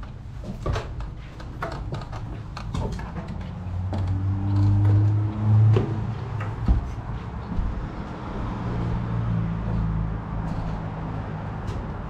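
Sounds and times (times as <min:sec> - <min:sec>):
footsteps on stairs: 0:02.2 - 0:12.0.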